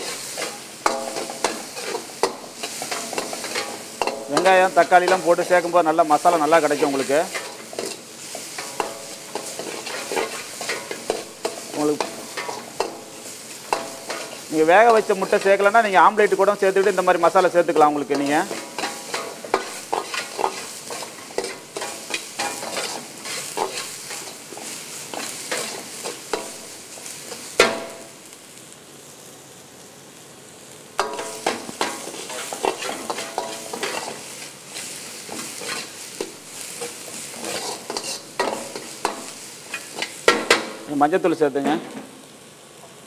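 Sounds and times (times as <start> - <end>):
metal ladle scraping a pan: 0.0 - 15.6, 18.0 - 28.0, 31.0 - 40.8
onions sizzling in hot oil: 0.0 - 43.0.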